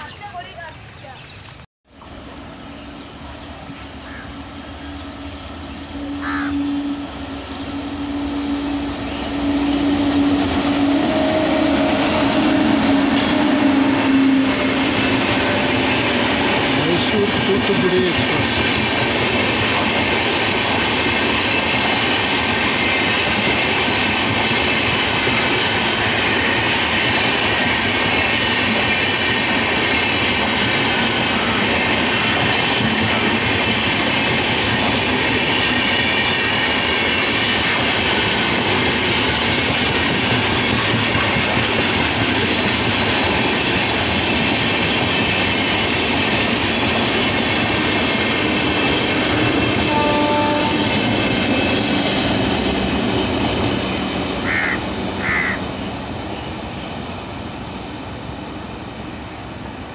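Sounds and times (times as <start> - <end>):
train wheels running on rails: 0.0 - 59.9.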